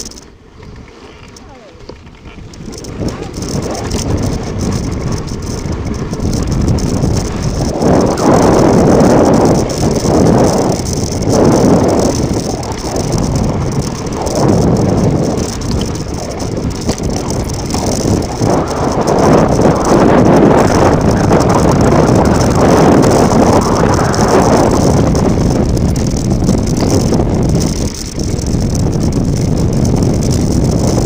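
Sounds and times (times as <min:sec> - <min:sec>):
bike tyres sliding on loose ground: 0:00.0 - 0:31.0.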